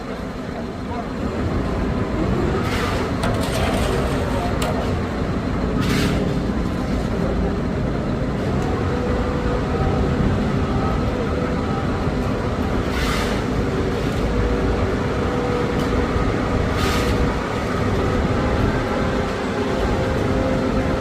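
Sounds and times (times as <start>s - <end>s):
engine-driven machinery running: 0.0s - 21.0s.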